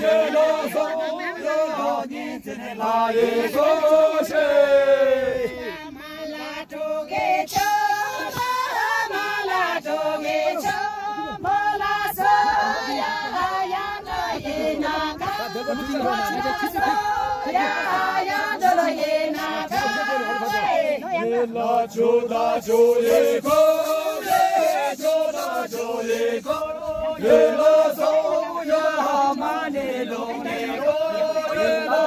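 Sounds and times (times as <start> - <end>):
group singing in unison: 0.0 - 32.0.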